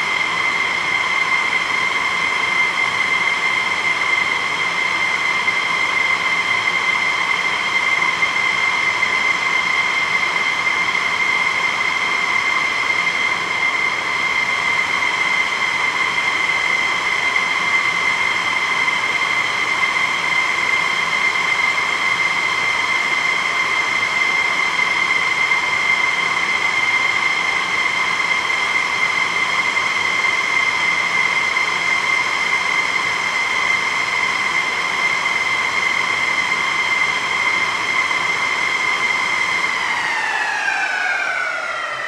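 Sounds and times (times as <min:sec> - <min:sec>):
jet engine whine: 0:00.0 - 0:42.0.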